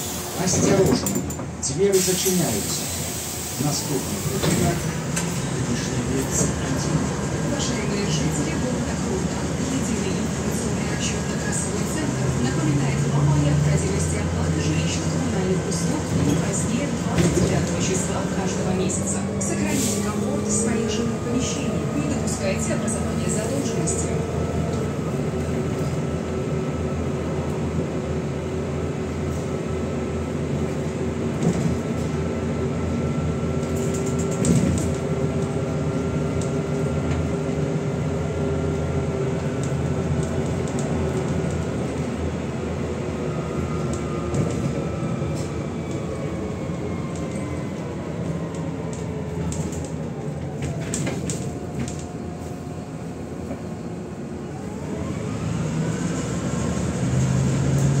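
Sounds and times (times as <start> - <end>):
bus diesel engine hum: 0.0 - 58.0
road and tyre noise: 0.0 - 58.0.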